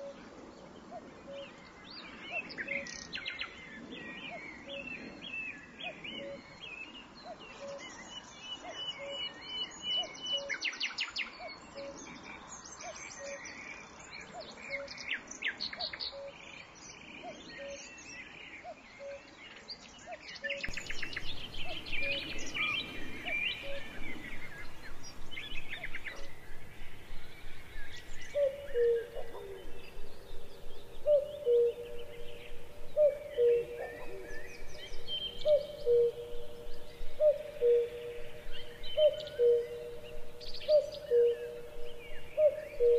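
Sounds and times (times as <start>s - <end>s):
birds chirping and trilling: 0.0s - 42.9s.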